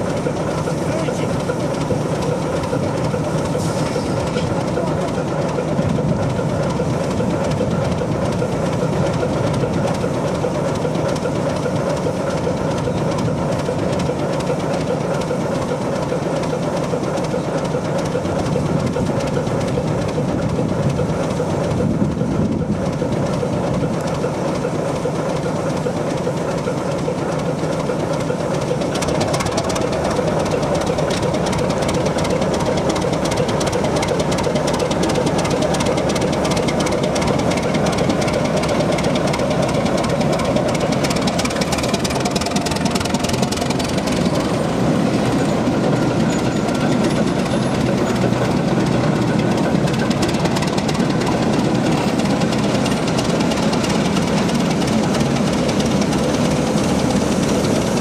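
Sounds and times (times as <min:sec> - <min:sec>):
diesel locomotive engine idling: 0:00.0 - 0:58.0.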